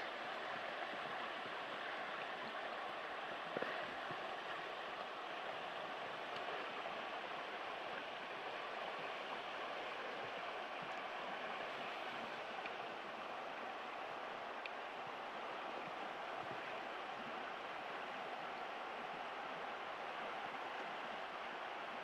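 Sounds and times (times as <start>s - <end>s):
river flowing over stones: 0.0s - 22.0s.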